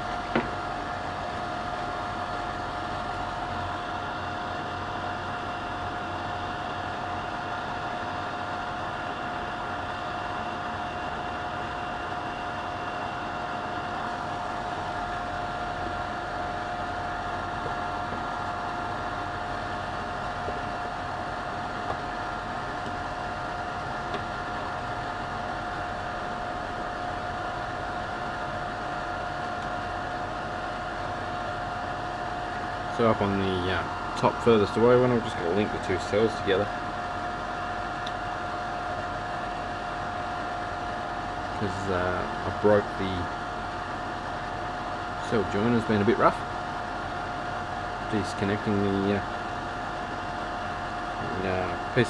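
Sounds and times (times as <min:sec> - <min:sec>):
extraction fan running: 0:00.0 - 0:52.0.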